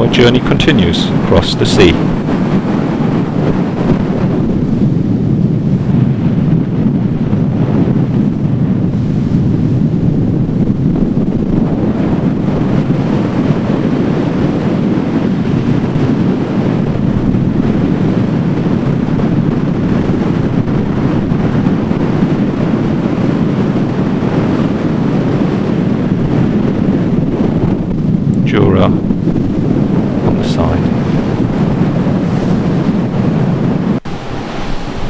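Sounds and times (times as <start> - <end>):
bow wave breaking along hull: 0.0 - 35.0
wind rushing over microphone: 0.0 - 35.0.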